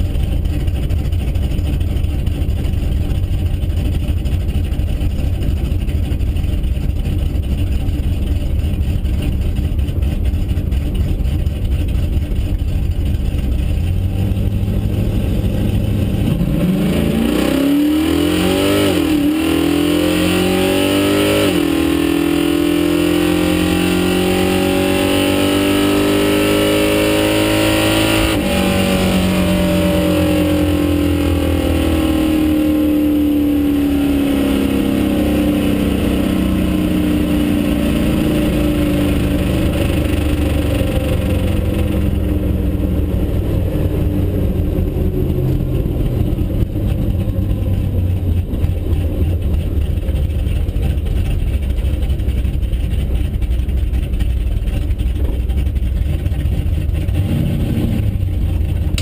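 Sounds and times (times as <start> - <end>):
car engine at full throttle: 0.0 - 59.0
road and wind noise: 0.0 - 59.0.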